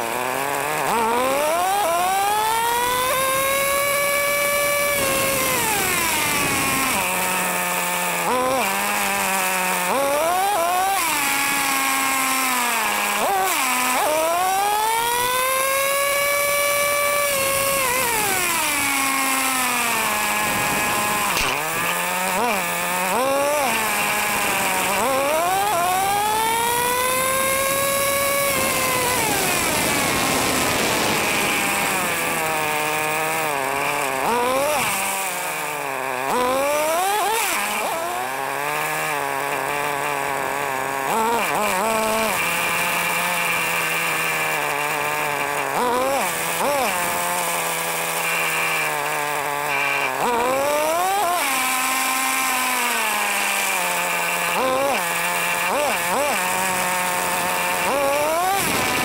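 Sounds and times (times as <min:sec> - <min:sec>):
nitro engine revving: 0:00.0 - 0:59.0.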